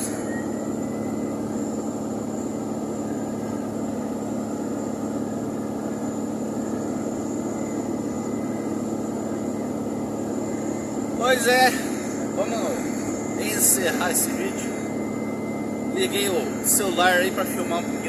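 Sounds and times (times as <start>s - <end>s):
faint high whine: 0.0s - 18.0s
vehicle interior road drone: 0.0s - 18.0s.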